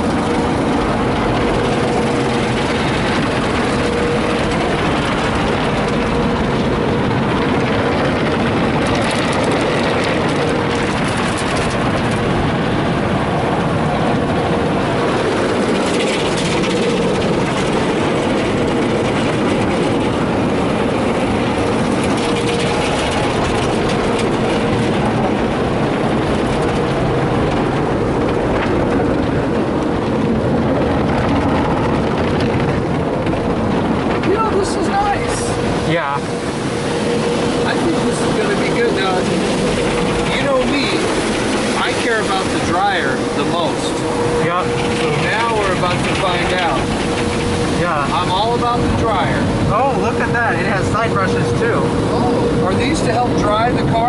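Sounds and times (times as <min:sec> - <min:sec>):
car wash spray and scrubbing: 0:00.0 - 0:54.0
thin steady machinery tone: 0:00.0 - 0:54.0.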